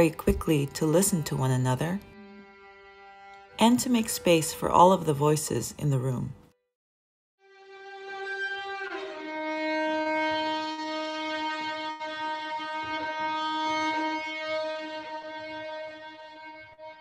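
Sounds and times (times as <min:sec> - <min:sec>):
violin sustained note: 0:00.0 - 0:05.4, 0:07.4 - 0:17.0.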